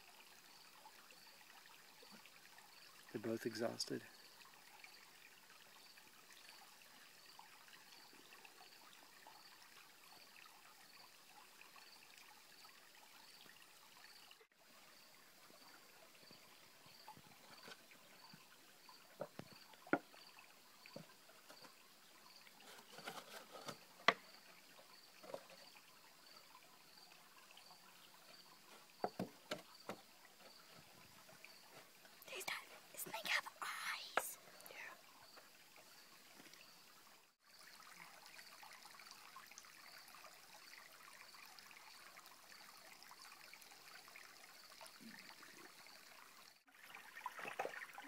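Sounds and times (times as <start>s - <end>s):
small stream trickling: 0.0s - 48.0s.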